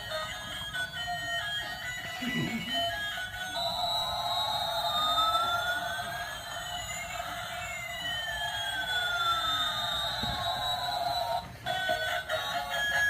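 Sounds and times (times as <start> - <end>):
toy airplane siren sound effect: 0.0 - 13.0.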